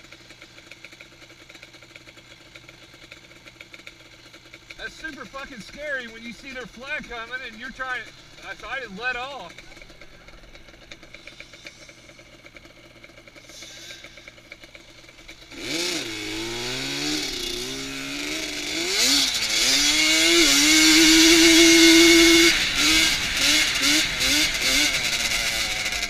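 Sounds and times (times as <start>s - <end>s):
quad engine revving: 4.6s - 26.0s.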